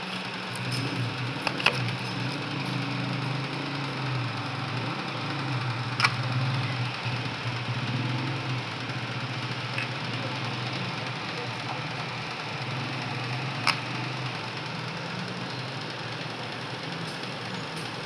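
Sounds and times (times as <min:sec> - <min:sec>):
low machine hum: 0:00.2 - 0:18.0.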